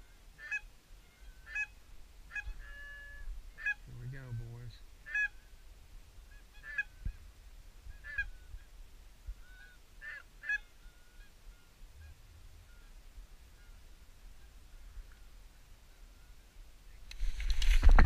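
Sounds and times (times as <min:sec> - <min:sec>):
geese honking: 0:00.0 - 0:05.5, 0:06.2 - 0:07.2, 0:07.9 - 0:08.6, 0:09.3 - 0:16.6.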